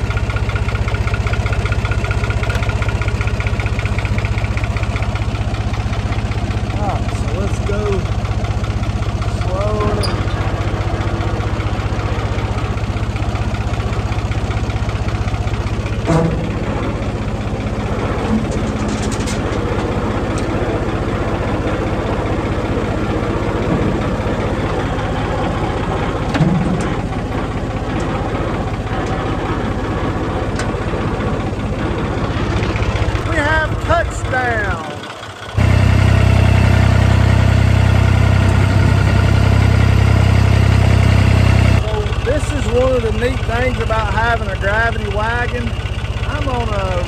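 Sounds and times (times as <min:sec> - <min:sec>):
tractor engine idling: 0:00.0 - 0:47.0.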